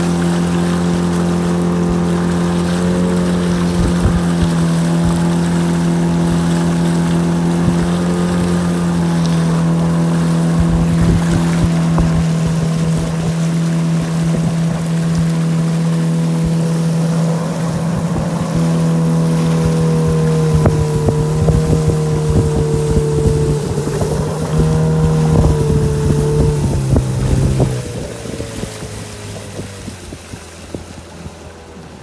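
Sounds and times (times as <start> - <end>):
small boat motor running: 0.0 - 32.0.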